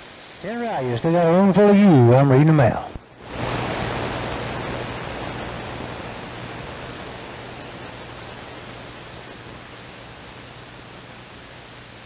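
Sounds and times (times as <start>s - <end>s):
radio static hiss: 0.0s - 12.0s
steady low hum: 0.0s - 12.0s.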